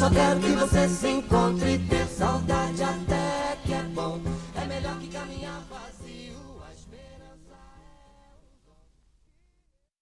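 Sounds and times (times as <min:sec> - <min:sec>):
pop song instrumental backing: 0:00.0 - 0:08.3.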